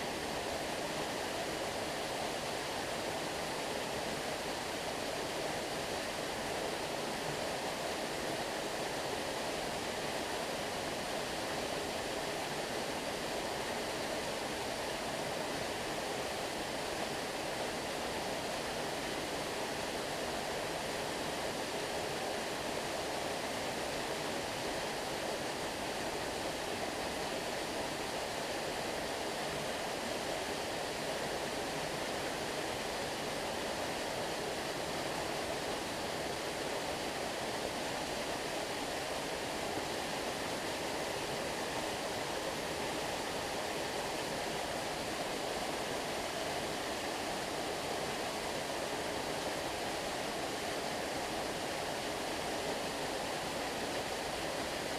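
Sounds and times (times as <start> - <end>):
stream water running: 0.0 - 54.9.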